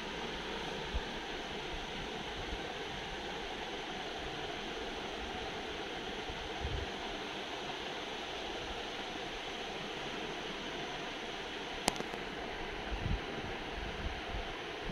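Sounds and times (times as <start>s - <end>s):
steady hiss: 0.0s - 14.9s.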